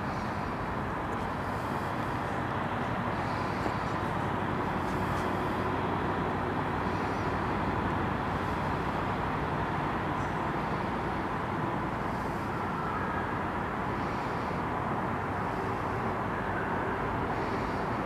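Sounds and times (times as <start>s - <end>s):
distant traffic hum: 0.0s - 18.0s
faint steady tone: 0.0s - 18.0s.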